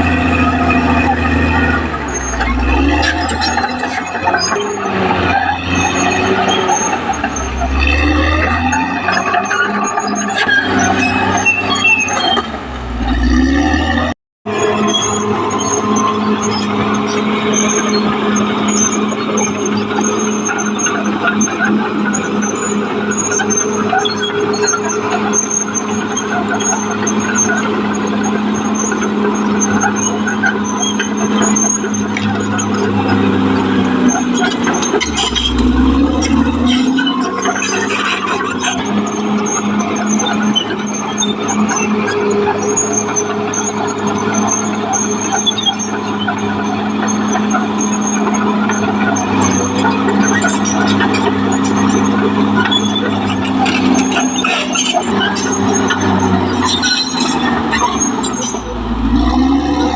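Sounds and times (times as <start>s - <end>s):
diesel engine hum: 0.0s - 59.9s
steel undercarriage squeaks: 0.0s - 59.9s.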